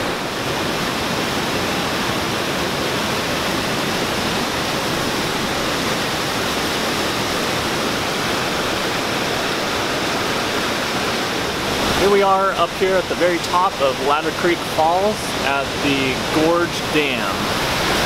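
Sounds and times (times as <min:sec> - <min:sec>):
whitewater rushing over rocks: 0:00.0 - 0:18.0.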